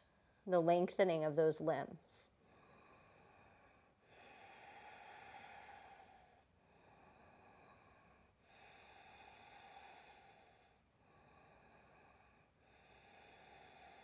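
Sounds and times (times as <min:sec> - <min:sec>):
slow breathing: 0:02.3 - 0:14.0.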